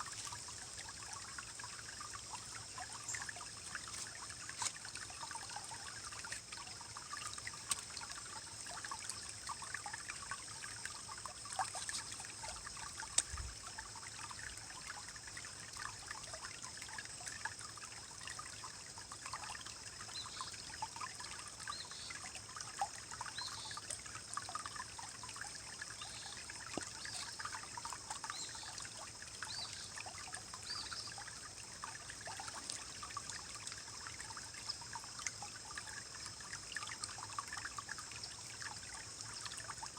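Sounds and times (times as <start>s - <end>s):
stream rippling and gurgling: 0.0s - 39.9s.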